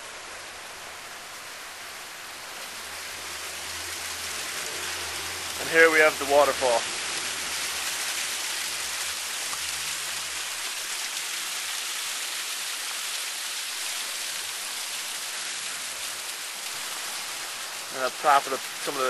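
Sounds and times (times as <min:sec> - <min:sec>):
waterfall rushing down rocks: 0:00.0 - 0:19.0.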